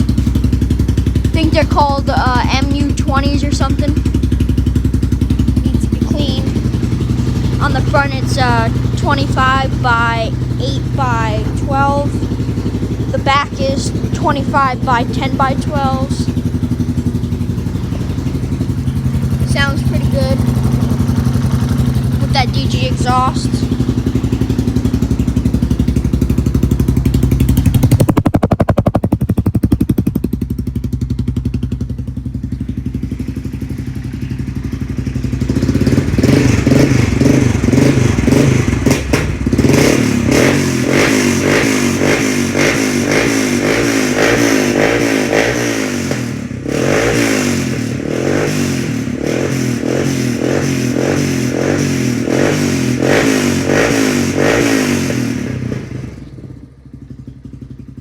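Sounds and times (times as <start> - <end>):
four-stroke engine idling: 0.0 - 58.0.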